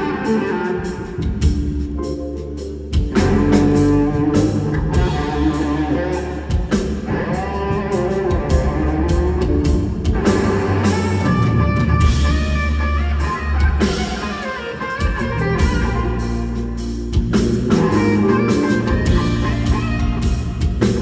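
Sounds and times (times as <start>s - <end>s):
electric guitar gliding notes: 0.0s - 21.0s
live blues-jazz band: 0.0s - 21.0s.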